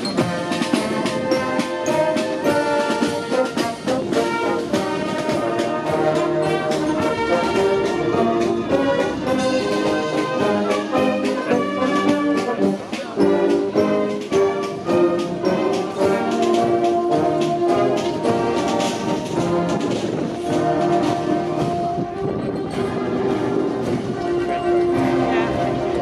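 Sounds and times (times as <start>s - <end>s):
brass band playing: 0.0s - 26.0s
drum beats: 0.0s - 26.0s.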